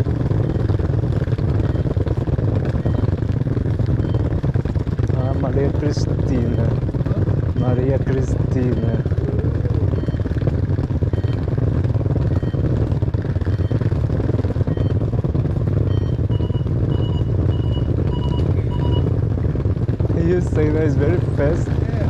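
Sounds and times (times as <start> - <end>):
outdoor street noise rumble: 0.0 - 22.0.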